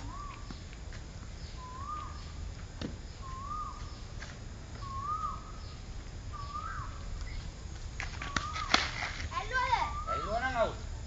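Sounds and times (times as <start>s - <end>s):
bird calling: 0.0s - 0.7s, 1.4s - 2.4s, 3.1s - 10.8s
steady background hiss: 0.0s - 11.0s.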